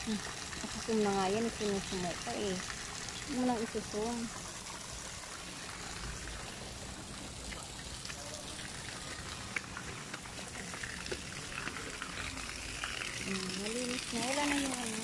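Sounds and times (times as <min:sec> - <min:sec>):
waterfall splashing into pond: 0:00.0 - 0:15.0.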